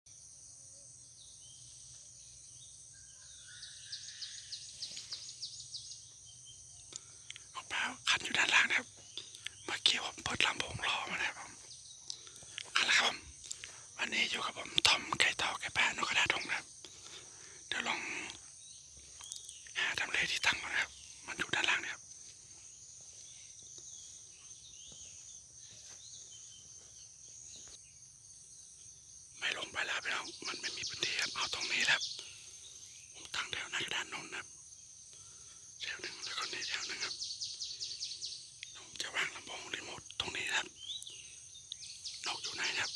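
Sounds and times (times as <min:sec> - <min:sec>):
insects droning: 0:00.1 - 0:42.9
bird chirping: 0:00.4 - 0:42.9.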